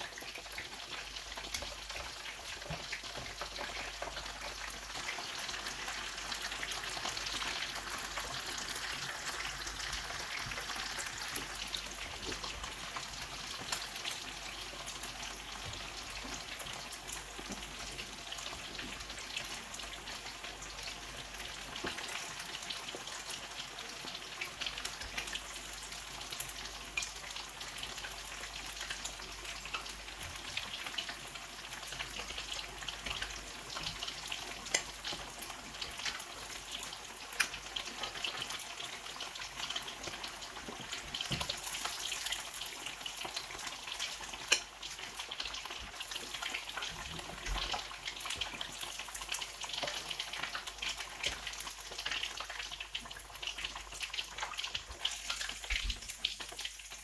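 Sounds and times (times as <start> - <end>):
food deep-frying in oil: 0.0 - 57.0.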